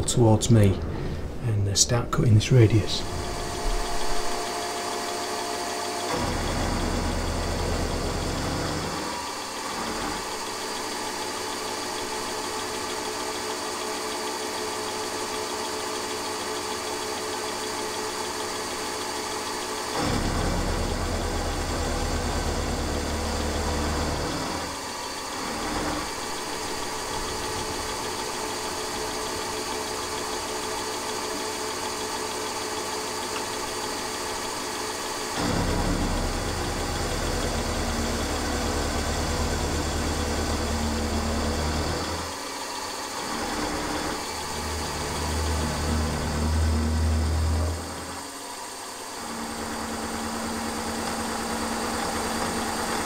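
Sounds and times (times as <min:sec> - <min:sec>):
end mill cutting metal: 0:00.0 - 0:53.0
milling machine motor hum: 0:02.8 - 0:53.0.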